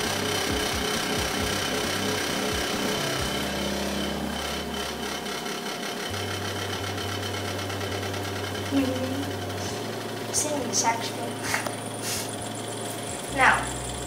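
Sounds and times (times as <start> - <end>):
cotton candy machine motor humming: 0.0 - 14.0.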